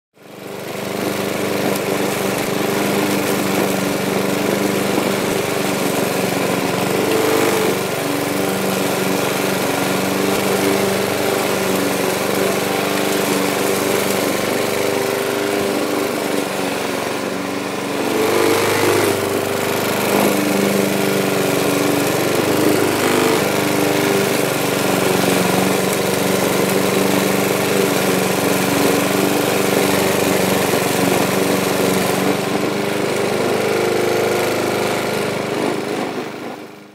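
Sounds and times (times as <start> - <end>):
lawn mower engine running: 0.2 - 36.9.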